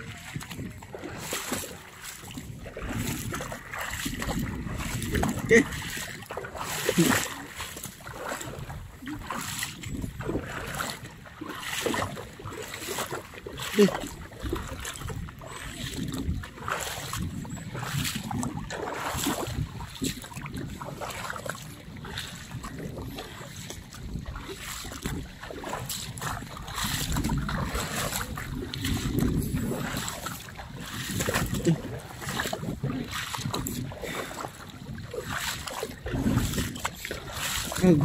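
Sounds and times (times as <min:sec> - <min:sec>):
shallow water splashing: 0:00.0 - 0:38.0
wind buffeting microphone: 0:00.0 - 0:38.0.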